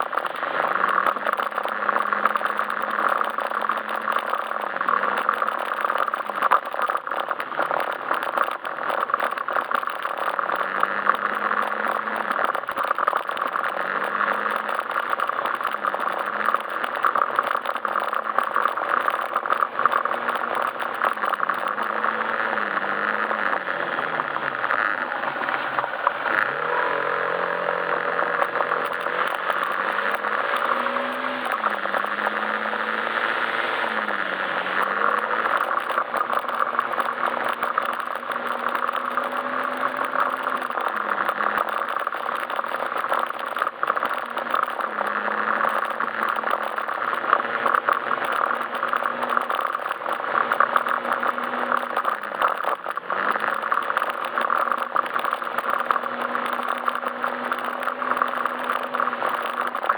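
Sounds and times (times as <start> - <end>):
road noise: 0.0 - 59.9
scooter engine running: 0.0 - 59.9.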